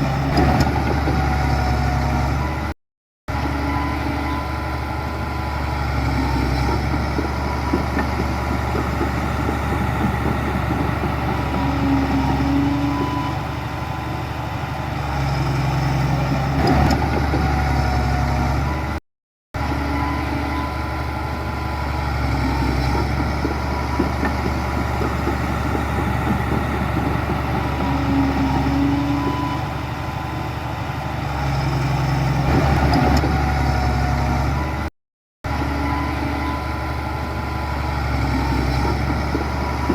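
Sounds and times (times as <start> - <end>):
heavy machinery engine running: 0.0 - 19.0, 19.6 - 34.9, 35.5 - 39.9.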